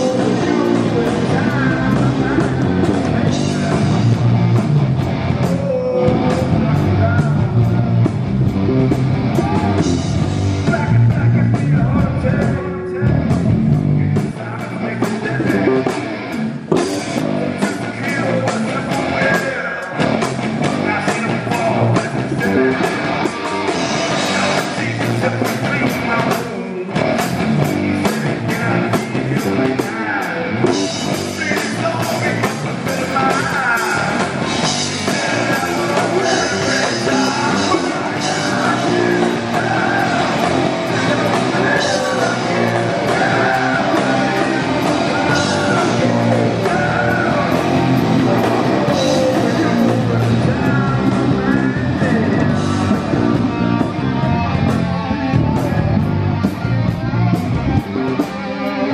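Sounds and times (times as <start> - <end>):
man singing: 0.0 - 4.6, 5.3 - 7.8, 9.3 - 54.8
bass guitar: 0.0 - 58.9
distorted electric guitars: 0.0 - 58.9
drums: 0.0 - 58.9.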